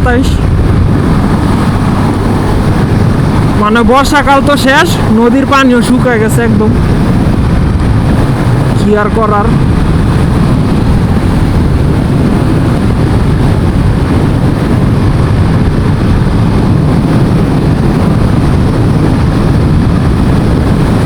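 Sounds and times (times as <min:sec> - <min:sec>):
motorcycle engine: 0:00.0 - 0:21.0
wind rush over microphone: 0:00.0 - 0:21.0.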